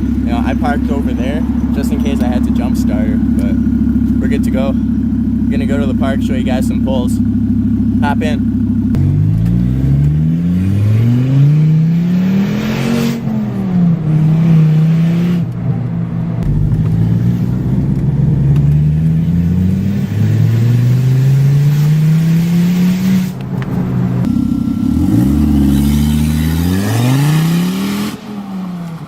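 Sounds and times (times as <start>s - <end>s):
car engine accelerating: 0.0s - 29.0s
loud exhaust: 0.0s - 29.0s.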